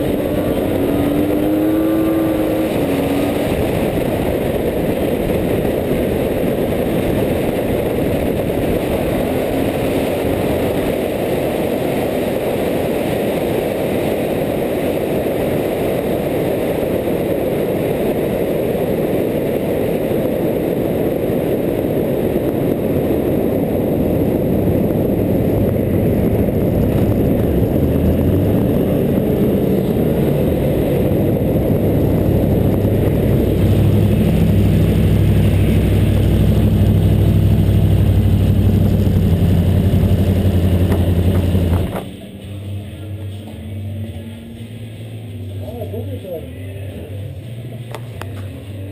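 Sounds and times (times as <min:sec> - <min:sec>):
motorcycle engine at low revs: 0:00.0 - 0:48.9
wind rush on camera: 0:00.0 - 0:48.9.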